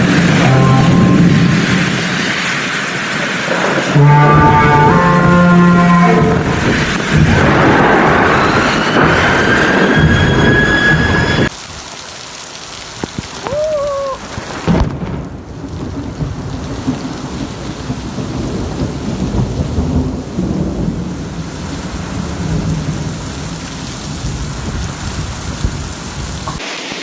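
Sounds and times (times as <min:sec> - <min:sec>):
thunder rumbling: 0:00.0 - 0:11.5, 0:13.2 - 0:26.6
heavy rain pouring: 0:00.0 - 0:27.0.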